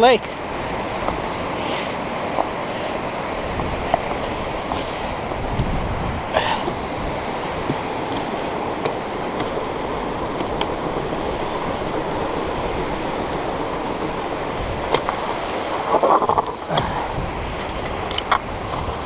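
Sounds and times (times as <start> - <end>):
waves rushing on shore: 0.0 - 19.0
wind on microphone: 0.4 - 19.0.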